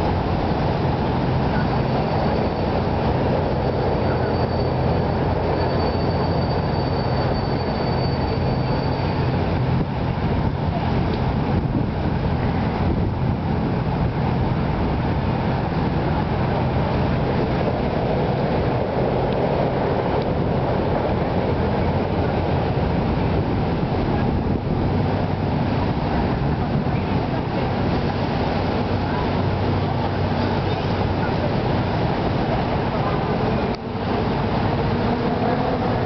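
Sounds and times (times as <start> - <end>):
motorboat engine droning: 0.0 - 36.0
water noise: 0.0 - 36.0
wind noise: 0.0 - 36.0.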